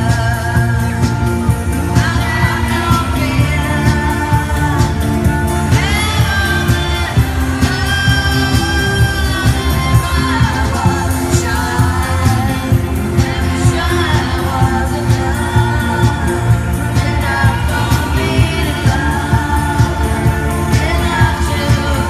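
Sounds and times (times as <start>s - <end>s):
live rock band playing: 0.0s - 22.0s
woman singing lead vocal: 0.0s - 22.0s.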